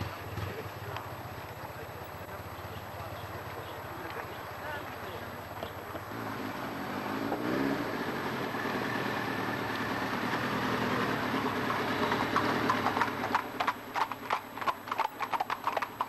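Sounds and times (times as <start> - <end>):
horse hooves clip-clopping on road: 0.0 - 16.0
motorcycle engine passing: 0.0 - 16.0.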